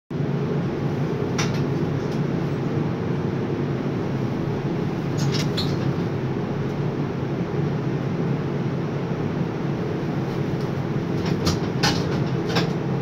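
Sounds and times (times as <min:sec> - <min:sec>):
crane machinery drone: 0:00.2 - 0:13.0.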